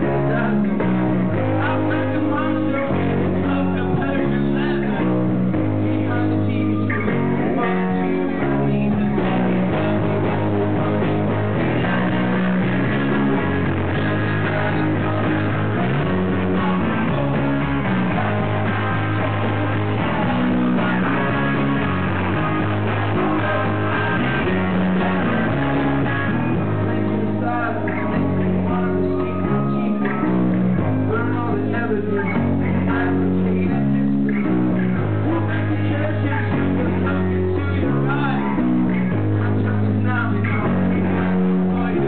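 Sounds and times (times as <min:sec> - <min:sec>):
bass guitar: 0:00.0 - 0:42.0
drums: 0:00.0 - 0:42.0
electric guitars: 0:00.0 - 0:42.0
man singing into a microphone: 0:00.0 - 0:42.0.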